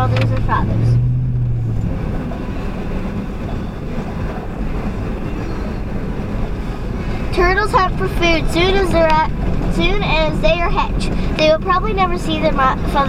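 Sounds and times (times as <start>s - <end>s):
low hum: 0.0s - 13.0s
snowmobile engine rumble: 0.0s - 13.0s.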